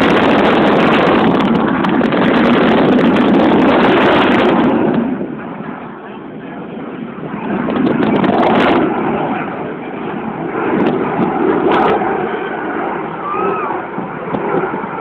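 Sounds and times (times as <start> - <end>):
airplane engine passing over: 0.0 - 15.0.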